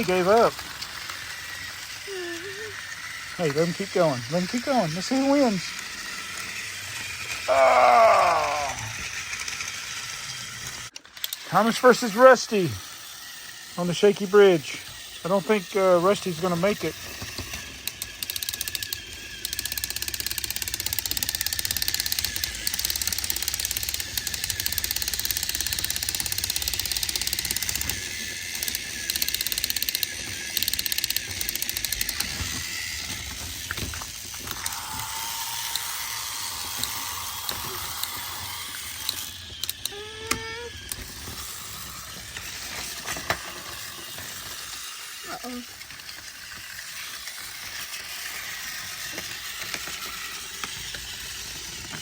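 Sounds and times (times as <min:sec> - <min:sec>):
toy train gear whir: 0:00.0 - 0:52.0
plastic rattle: 0:08.9 - 0:52.0.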